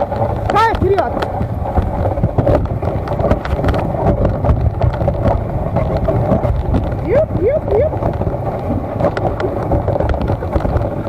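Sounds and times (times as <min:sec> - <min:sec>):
knocks and rattles: 0:00.0 - 0:11.0
vehicle rumble: 0:00.0 - 0:11.0.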